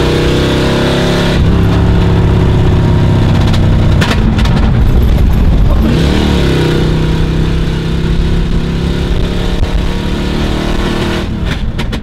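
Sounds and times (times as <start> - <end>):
car engine droning: 0.0 - 12.0
low road rumble: 0.0 - 12.0.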